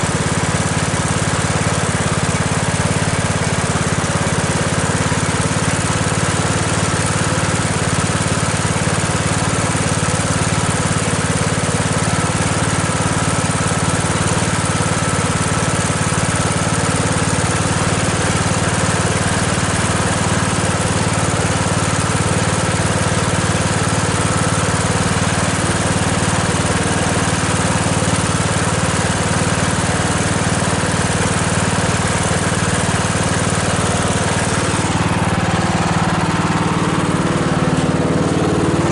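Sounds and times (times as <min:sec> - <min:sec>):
lawnmower engine running: 0:00.0 - 0:38.9.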